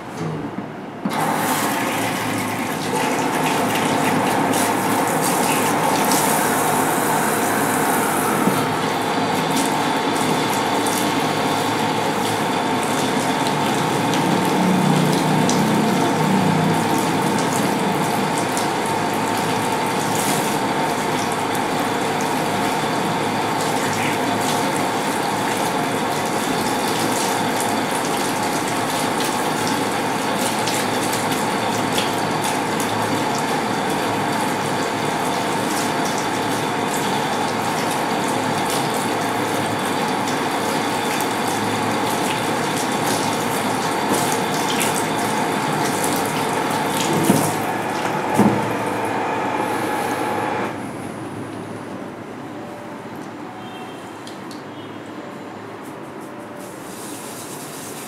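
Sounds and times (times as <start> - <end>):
water running from a tap: 1.1 - 49.1.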